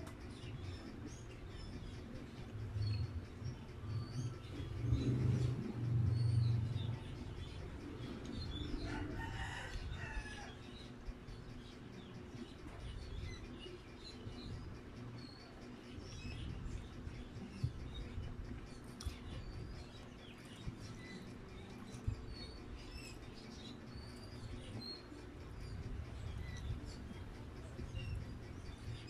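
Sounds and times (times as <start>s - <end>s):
birds chirping faintly: 0.0s - 29.0s.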